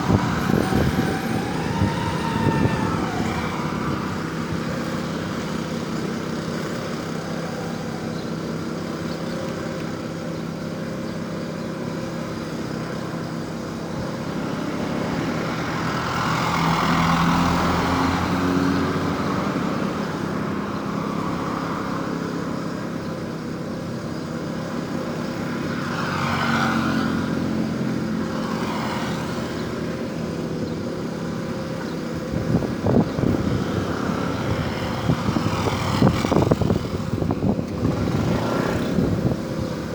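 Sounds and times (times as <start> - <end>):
steady engine drone: 0.0 - 39.9
vehicles passing by: 0.0 - 39.9.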